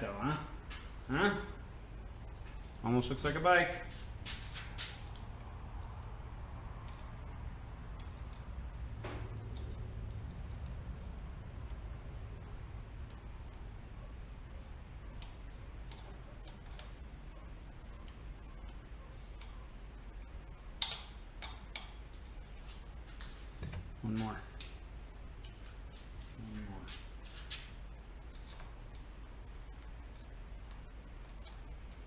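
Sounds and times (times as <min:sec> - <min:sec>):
cricket chirping: 0:00.0 - 0:32.0.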